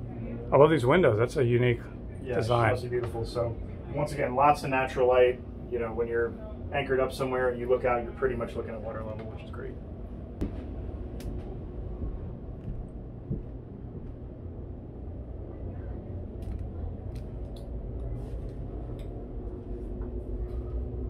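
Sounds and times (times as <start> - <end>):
low cabin rumble: 0.0 - 21.0.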